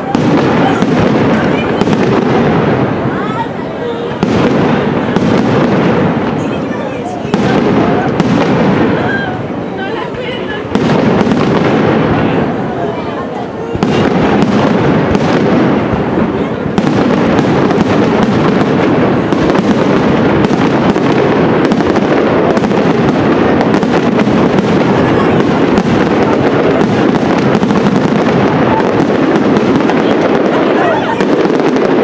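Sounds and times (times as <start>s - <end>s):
fireworks bursting and crackling: 0.0s - 32.0s.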